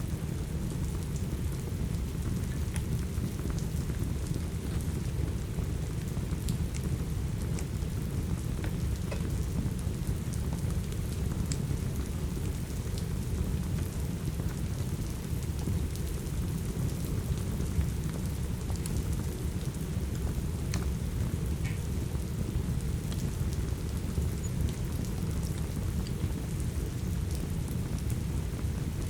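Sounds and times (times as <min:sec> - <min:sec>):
steady rain: 0:00.0 - 0:29.0
wood fire crackling: 0:00.1 - 0:29.0.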